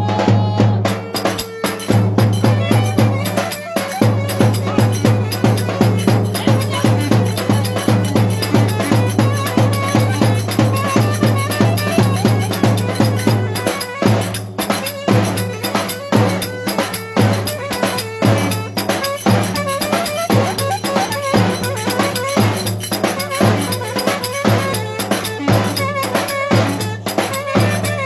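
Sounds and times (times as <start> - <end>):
live band music: 0.0 - 28.0.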